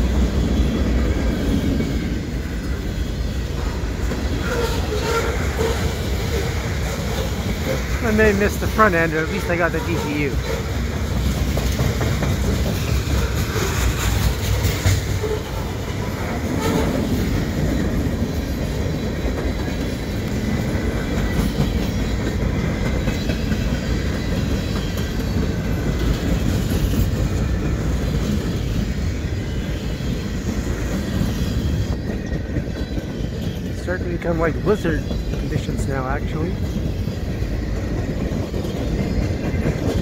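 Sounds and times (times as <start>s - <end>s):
freight train rumbling past: 0.0s - 40.0s
steel wheels clattering on rails: 0.0s - 40.0s.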